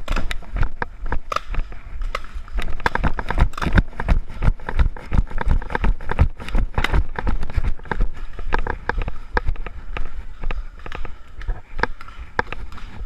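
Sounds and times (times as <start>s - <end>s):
running footsteps: 0.0s - 13.0s.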